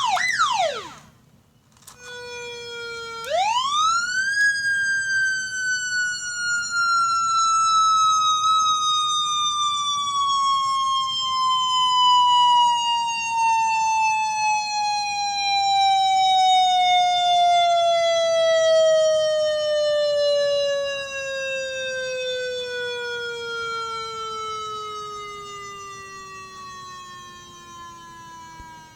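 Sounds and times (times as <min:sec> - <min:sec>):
electronic siren falling wail: 0:00.0 - 0:01.2, 0:02.0 - 0:28.9.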